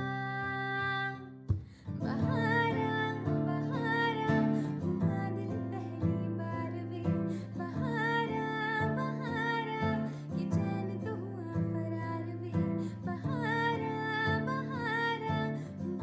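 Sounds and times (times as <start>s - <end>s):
plucked guitar: 0.0s - 16.0s
person singing: 2.0s - 16.0s.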